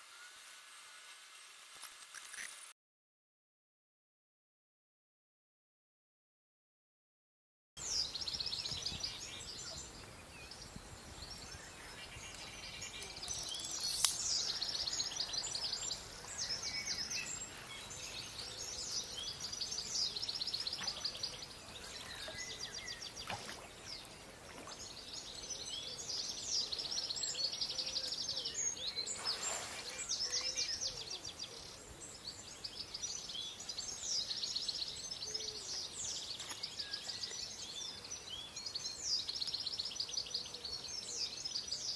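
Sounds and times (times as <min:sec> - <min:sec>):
songbirds singing: 0:07.8 - 0:41.9.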